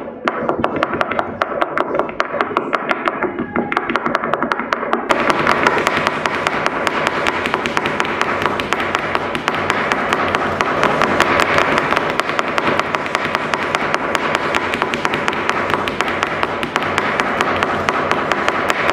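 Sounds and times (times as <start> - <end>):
shoes tapping on floor: 0.3 - 18.9.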